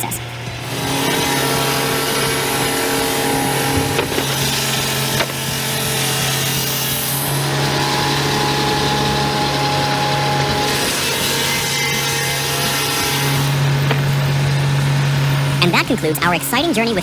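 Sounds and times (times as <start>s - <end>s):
petrol engine running: 0.0s - 17.0s
saw blade cutting log: 0.6s - 14.4s.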